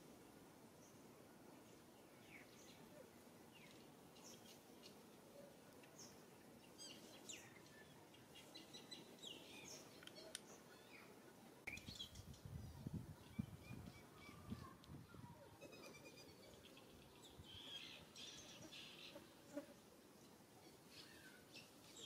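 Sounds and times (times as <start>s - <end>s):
small birds chirping: 1.6s - 22.0s.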